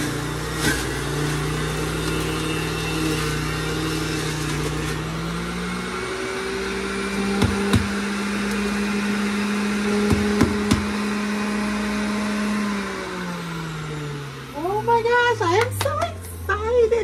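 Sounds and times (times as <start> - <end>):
juicer motor humming: 0.0 - 16.9.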